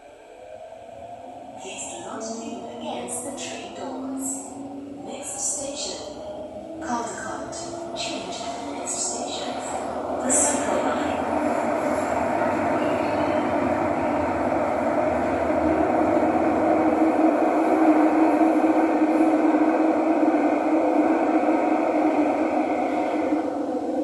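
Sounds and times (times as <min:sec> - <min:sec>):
train wheels rumbling: 0:01.6 - 0:24.0.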